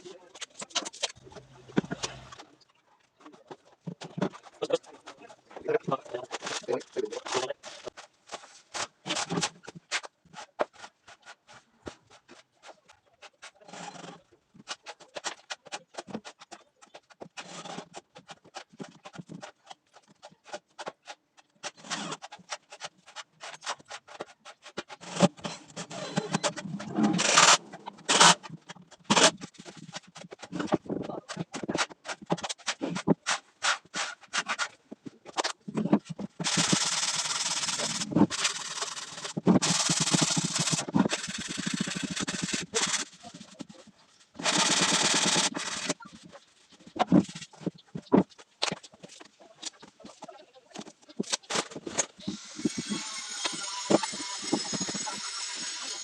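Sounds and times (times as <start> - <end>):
scraping and rubbing: 0.0 - 56.0.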